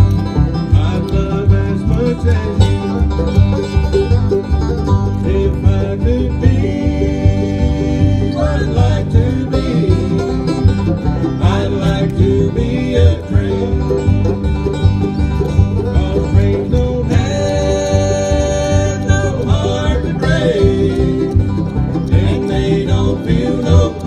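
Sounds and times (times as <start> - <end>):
banjo picking: 0.0 - 24.0
bluegrass band playing: 0.0 - 24.0.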